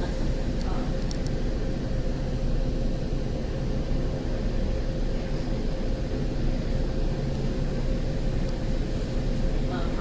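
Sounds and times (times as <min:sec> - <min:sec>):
higher steady hum: 0:00.0 - 0:10.0
light-rail car hum and rumble: 0:00.0 - 0:10.0.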